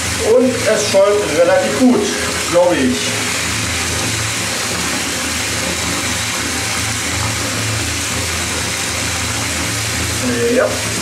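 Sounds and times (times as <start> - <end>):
bath tap water pouring: 0.0 - 11.0.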